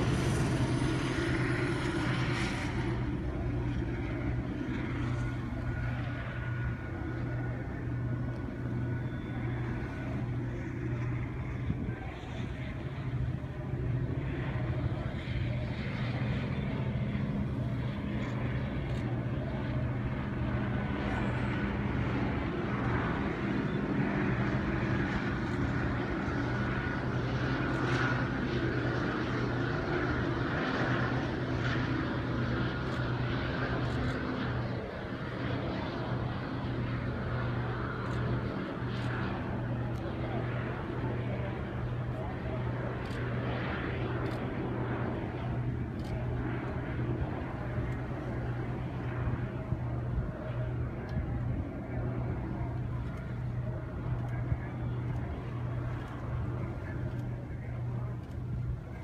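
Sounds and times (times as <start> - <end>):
engine drone: 0.0 - 59.0
noisy rush: 0.0 - 59.0.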